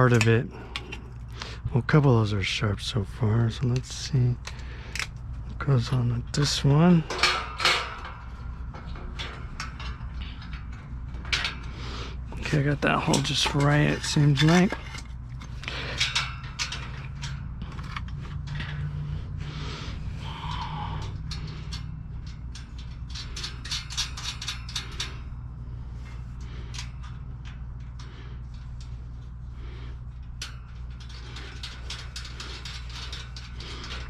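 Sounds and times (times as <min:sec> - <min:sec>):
metal clicks and scrapes: 0:00.0 - 0:02.0, 0:02.6 - 0:34.0.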